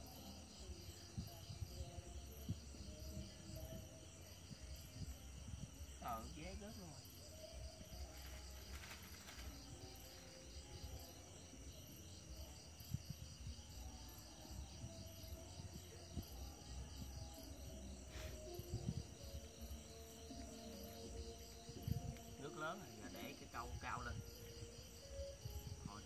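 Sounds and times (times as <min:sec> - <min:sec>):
crickets and insects trilling: 0:00.0 - 0:26.0.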